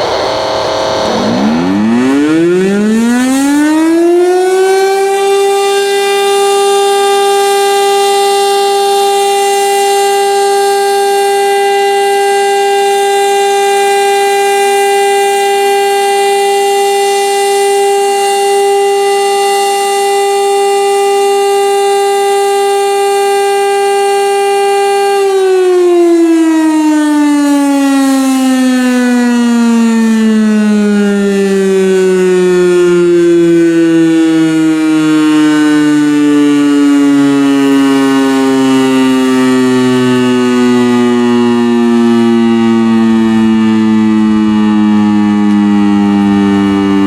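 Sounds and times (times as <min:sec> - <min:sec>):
warning siren winding up: 0:00.0 - 0:47.0.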